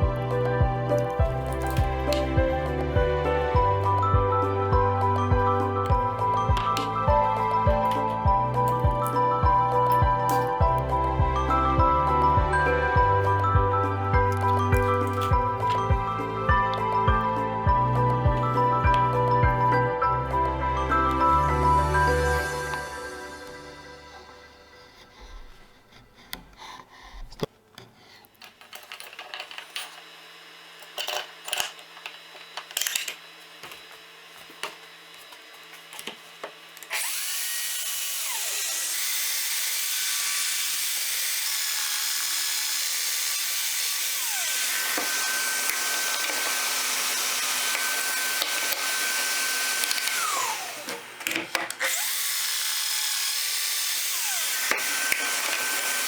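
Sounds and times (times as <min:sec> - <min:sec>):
knocks and clicks of tools and wood: 0:00.0 - 0:21.7, 0:26.3 - 0:56.0
electric power tool whining: 0:00.0 - 0:25.5, 0:28.9 - 0:56.0.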